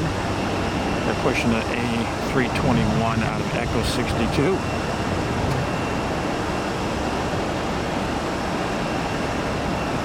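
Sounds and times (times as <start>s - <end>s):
distant aircraft and ground equipment: 0.0s - 10.0s.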